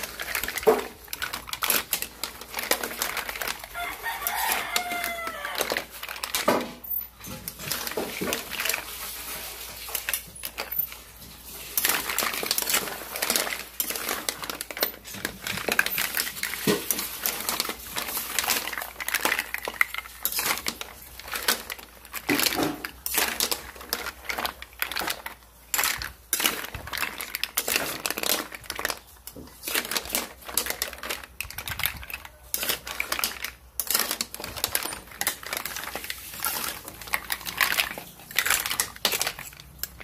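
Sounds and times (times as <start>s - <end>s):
cookware and utensils clattering: 0.0s - 40.0s
rustling: 0.0s - 40.0s.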